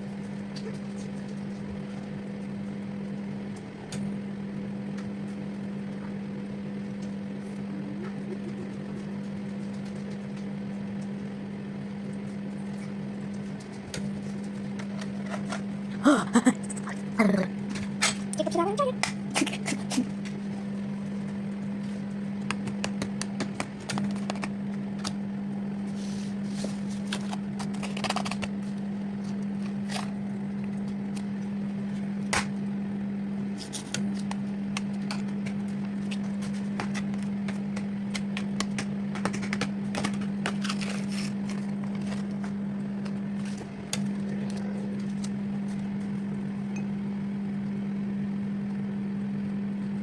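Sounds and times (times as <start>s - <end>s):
microwave oven humming: 0.0s - 50.0s.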